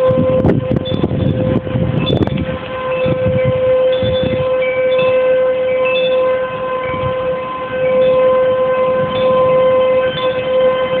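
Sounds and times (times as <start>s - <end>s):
tornado siren steady tone: 0.0s - 11.0s.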